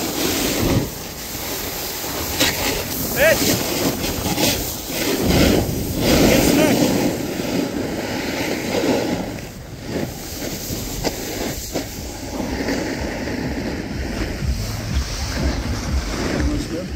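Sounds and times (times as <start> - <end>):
snowboard scraping over snow: 0.0 - 16.9
wind on microphone: 0.0 - 16.9.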